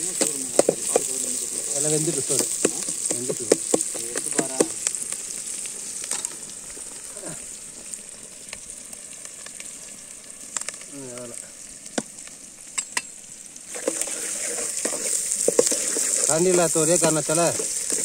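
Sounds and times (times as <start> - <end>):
shallots sizzling in hot oil: 0.0 - 18.0.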